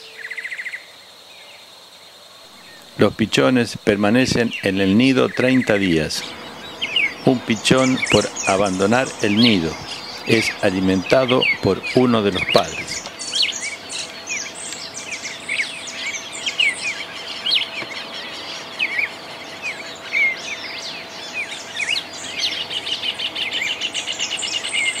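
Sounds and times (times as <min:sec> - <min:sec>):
faint steady hum: 0:00.9 - 0:25.0
birds chirping: 0:02.4 - 0:25.0.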